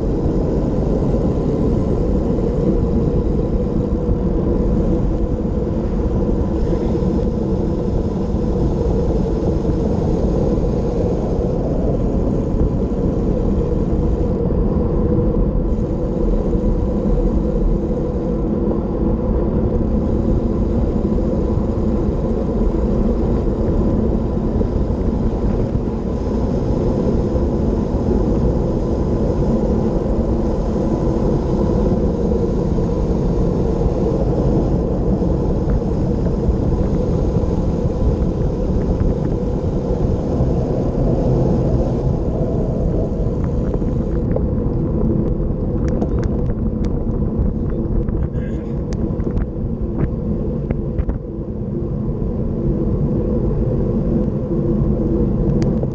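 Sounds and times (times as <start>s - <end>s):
wind rumbling over camera: 0.0s - 55.9s.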